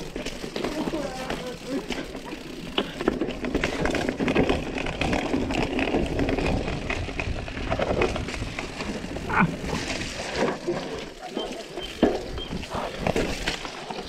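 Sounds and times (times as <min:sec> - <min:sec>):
bike rattling over bumps: 0:00.0 - 0:14.0
bike tyres on dirt trail: 0:00.0 - 0:14.0.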